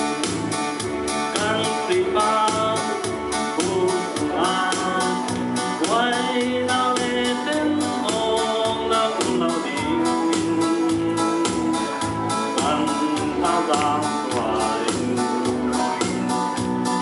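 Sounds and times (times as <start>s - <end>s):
instrumental accompaniment with beat: 0.0s - 17.0s
man singing gospel song: 1.2s - 16.0s.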